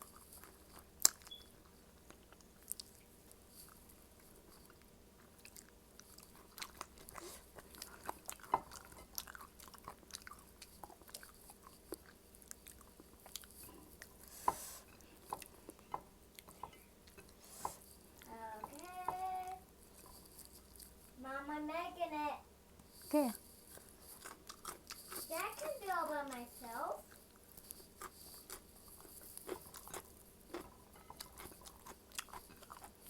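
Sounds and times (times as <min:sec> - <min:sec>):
person chewing food: 0:00.0 - 0:21.2, 0:22.8 - 0:33.0.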